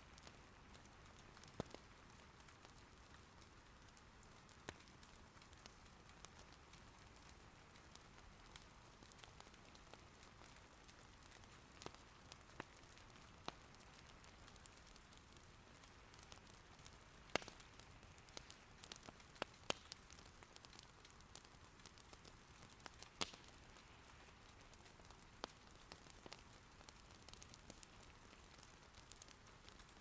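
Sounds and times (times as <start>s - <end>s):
faint rain patter: 0.0s - 30.0s
wood fire crackling: 0.0s - 30.0s.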